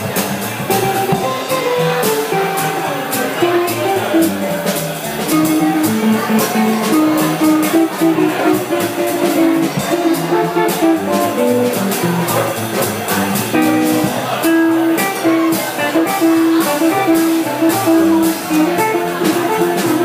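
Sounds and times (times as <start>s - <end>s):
drums on cymbals: 0.0s - 20.0s
electric jazz guitar: 0.0s - 20.0s.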